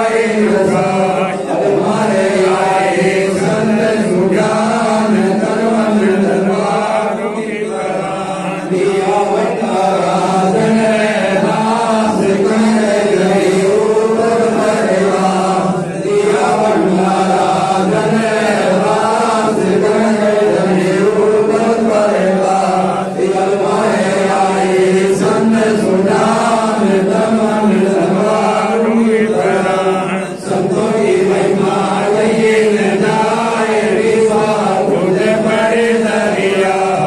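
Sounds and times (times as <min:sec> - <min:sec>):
men chanting a hymn: 0:00.0 - 0:37.0
voices over microphones: 0:00.0 - 0:37.0.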